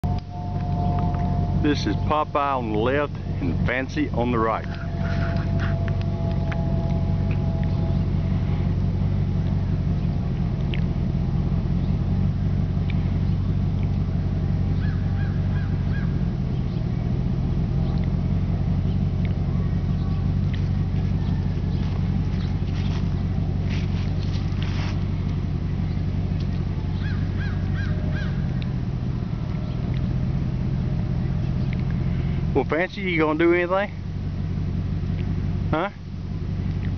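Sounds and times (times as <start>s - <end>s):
low motor-like hum: 0.0s - 36.9s.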